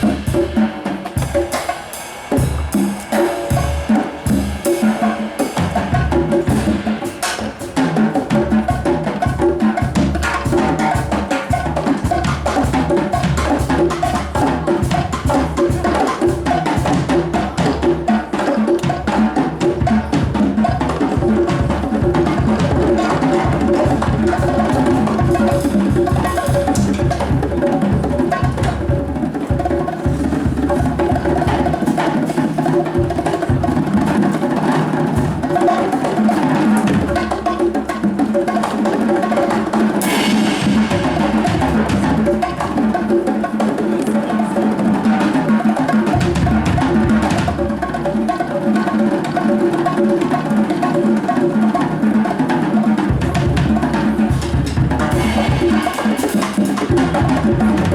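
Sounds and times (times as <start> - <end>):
fast busy drums and percussion: 0.0 - 57.9
live band music: 0.0 - 57.9.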